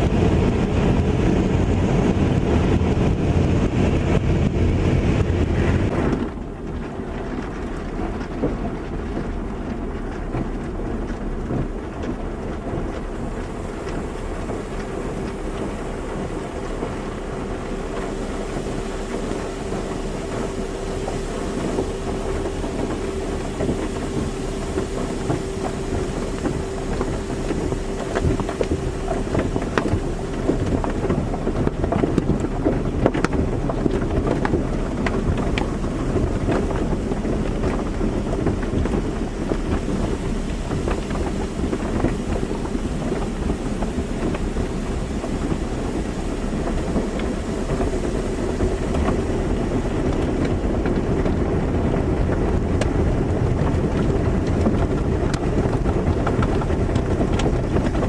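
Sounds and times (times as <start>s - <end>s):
car wash spraying water: 0.0s - 58.0s
faint steady hum: 0.0s - 58.0s.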